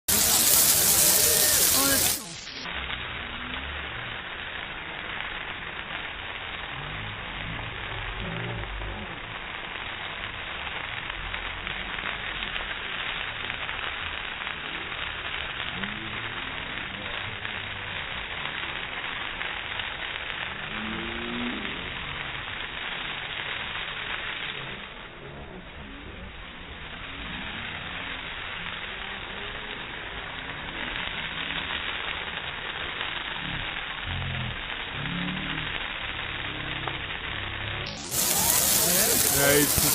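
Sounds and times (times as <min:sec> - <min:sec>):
faint voices: 0:00.0 - 0:09.6, 0:11.7 - 0:39.9
bonfire crackling: 0:00.0 - 0:39.9.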